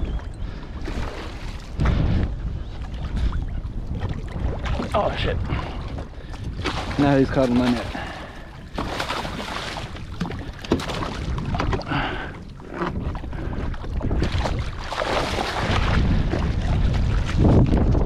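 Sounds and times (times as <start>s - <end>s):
water splashing and sloshing: 0.0s - 18.0s
wind buffeting microphone: 0.0s - 18.0s.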